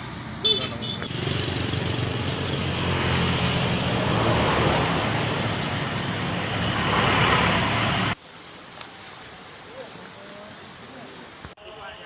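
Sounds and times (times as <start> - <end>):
road traffic noise: 0.0 - 11.6.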